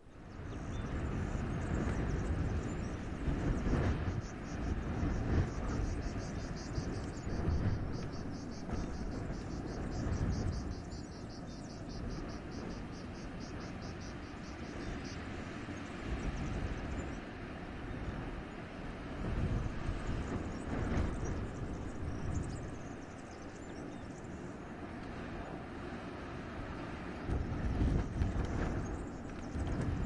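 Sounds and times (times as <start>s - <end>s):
wind gusting through forest: 0.0s - 30.0s.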